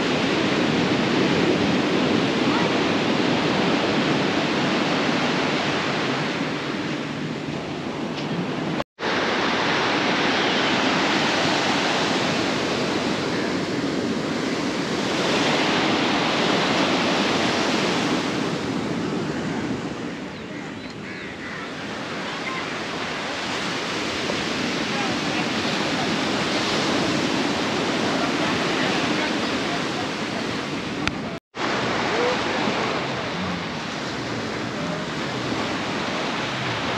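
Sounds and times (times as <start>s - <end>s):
sea surf breaking: 0.0s - 36.9s.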